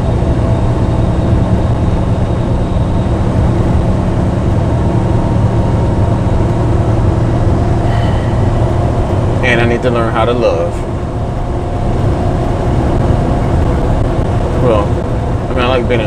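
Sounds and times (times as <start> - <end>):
road noise inside cab: 0.0 - 16.0
truck diesel engine drone: 0.0 - 16.0.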